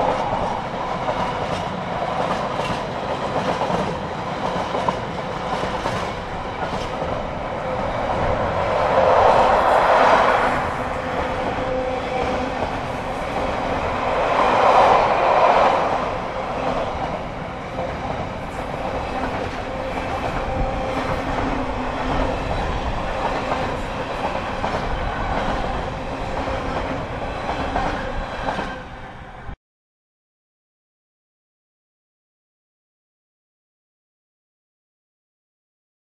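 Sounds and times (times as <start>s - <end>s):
freight train wheels rumbling on track: 0.0s - 29.6s.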